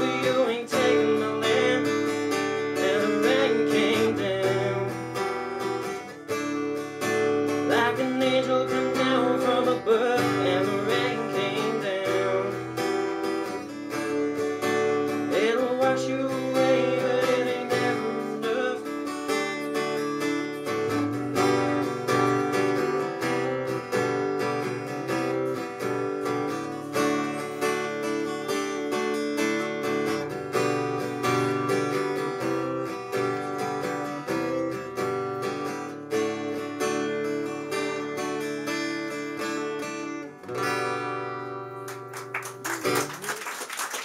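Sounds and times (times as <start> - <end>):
acoustic guitar strumming: 0.0 - 43.3.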